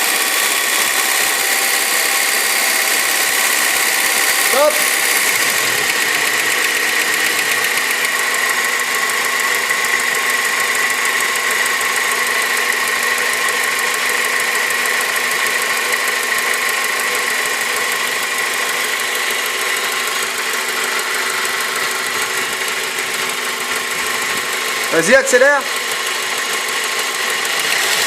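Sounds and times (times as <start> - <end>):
car engine idling: 0.0 - 28.0
fast even engine ticking: 0.0 - 28.0.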